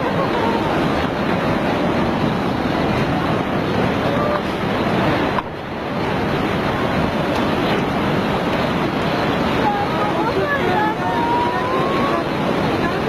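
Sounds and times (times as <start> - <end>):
floodwater rushing: 0.0 - 13.0
wind on microphone: 0.0 - 13.0.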